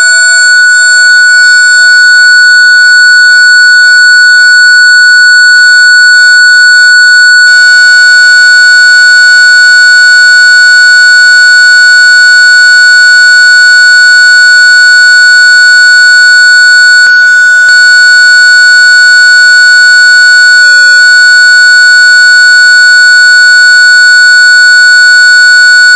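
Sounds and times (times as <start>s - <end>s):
steady high electronic beep: 0.5s - 17.1s, 17.7s - 25.9s.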